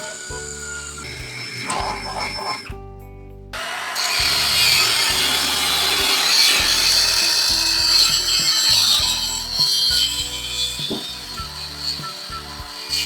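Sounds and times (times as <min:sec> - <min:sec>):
power tool working on metal: 0:00.0 - 0:02.7, 0:03.6 - 0:13.0
background music: 0:00.0 - 0:13.0.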